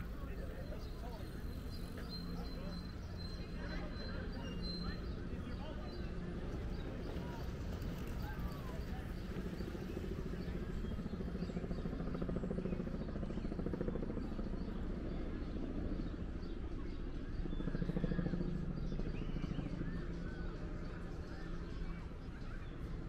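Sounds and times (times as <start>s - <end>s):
low mechanical drone with flutter: 0.0s - 23.0s.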